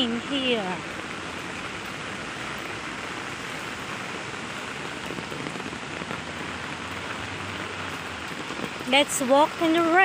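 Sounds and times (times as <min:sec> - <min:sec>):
heavy rain on a street: 0:00.0 - 0:10.0.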